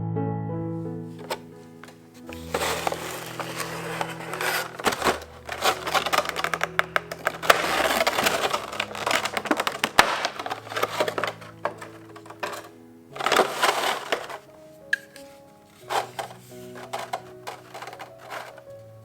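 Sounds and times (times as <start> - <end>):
soft background music: 0.0 - 19.0
packaging crackling and clicking: 1.2 - 19.0.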